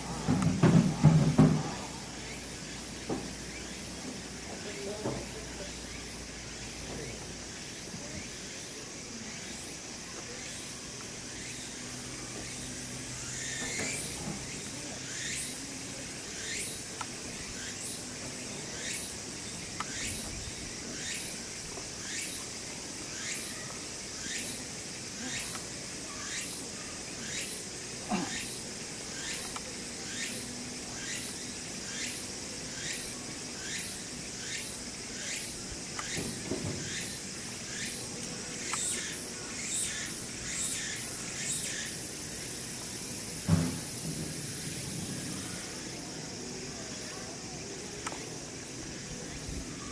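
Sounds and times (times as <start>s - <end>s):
insect call sweeping down: 0.0s - 49.9s
steady high insect drone: 0.0s - 49.9s.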